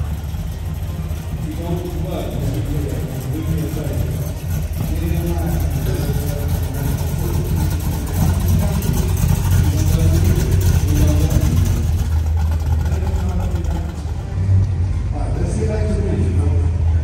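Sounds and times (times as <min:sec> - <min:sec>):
car engine idling: 0:00.0 - 0:17.0
people talking: 0:00.0 - 0:17.0.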